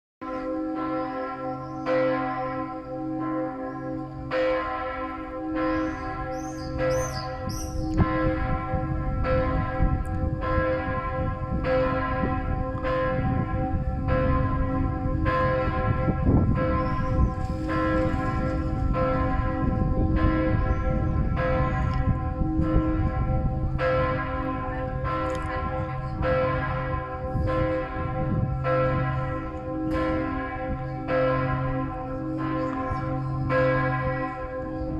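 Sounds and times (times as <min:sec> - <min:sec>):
church bells ringing: 0:00.2 - 0:34.9.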